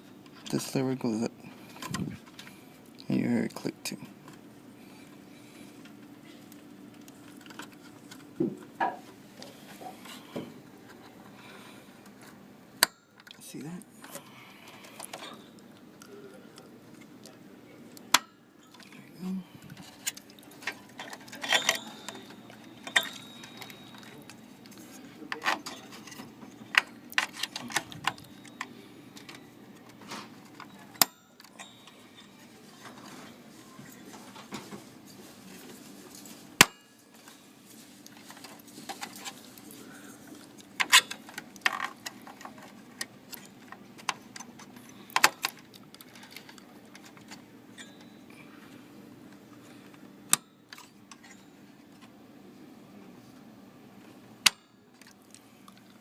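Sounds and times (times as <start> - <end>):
faint steady hum: 0.0 - 56.0
hands handling computer parts: 0.2 - 2.9, 5.0 - 52.2.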